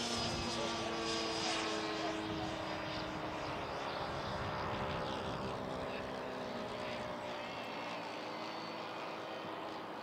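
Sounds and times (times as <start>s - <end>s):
model jet fan whine: 0.0s - 10.0s.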